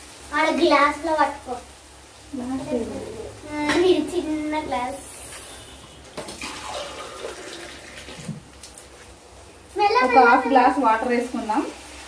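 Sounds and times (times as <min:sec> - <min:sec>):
water pouring and splashing: 0:02.3 - 0:12.0.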